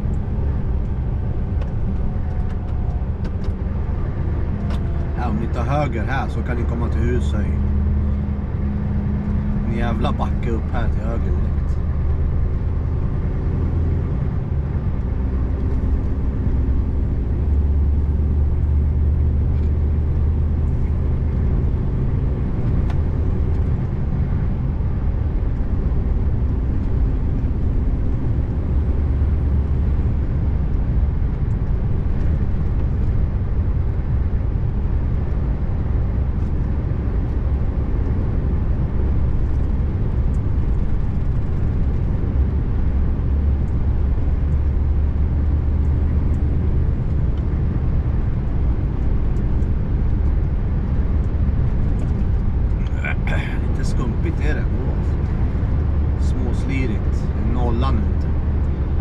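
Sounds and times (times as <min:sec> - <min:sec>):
diesel truck engine hum: 0:00.0 - 0:59.0
road noise: 0:00.0 - 0:59.0.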